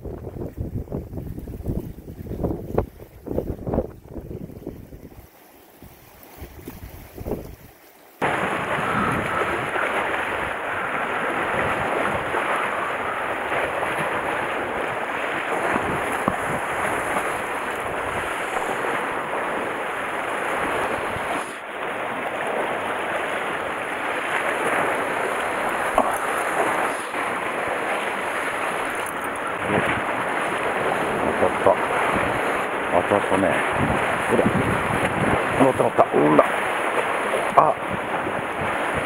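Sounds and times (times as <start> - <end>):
sea water surging among rocks: 0.0 - 39.0
wind buffeting microphone: 0.0 - 39.0.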